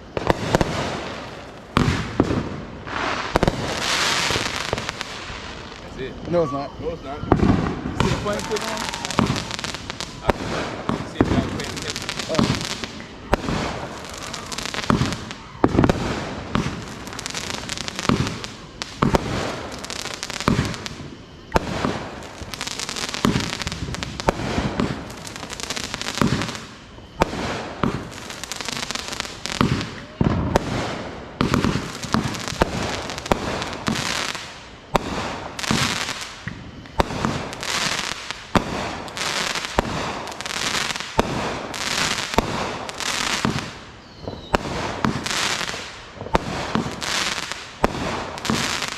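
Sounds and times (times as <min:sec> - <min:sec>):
fireworks bangs: 0:00.0 - 0:48.9
fireworks crackling hiss: 0:00.0 - 0:48.9.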